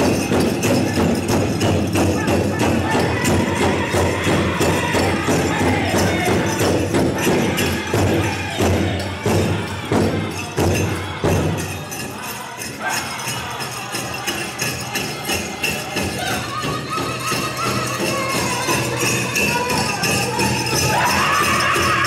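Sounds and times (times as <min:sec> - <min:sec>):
bells jingling: 0:00.0 - 0:22.0
large drum beating in steady rhythm: 0:00.0 - 0:22.0.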